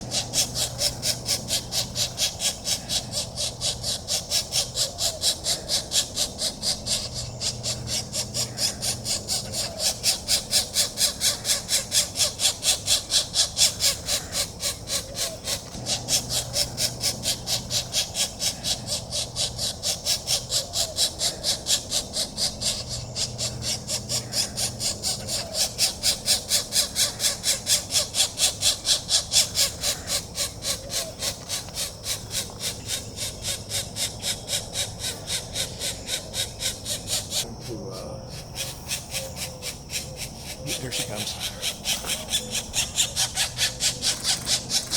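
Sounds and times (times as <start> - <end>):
woodpecker nestlings rasping calls: 0.0 - 44.9.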